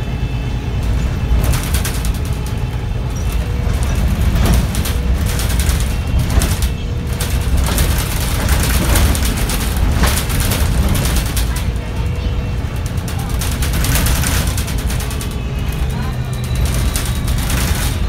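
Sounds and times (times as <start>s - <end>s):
bus engine and road rumble: 0.0s - 18.0s
rattles and knocks from bus body: 0.8s - 18.0s.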